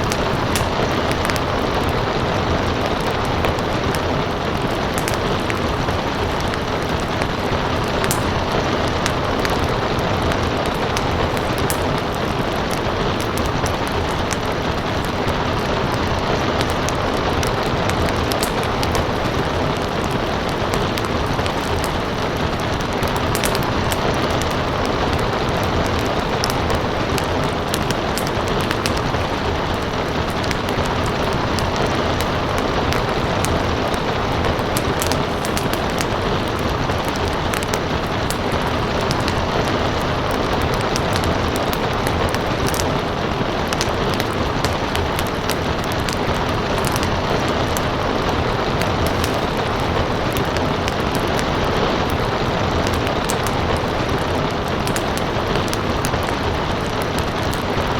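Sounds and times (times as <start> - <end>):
rain hiss: 0.0 - 57.9
wood fire crackling: 0.0 - 57.9.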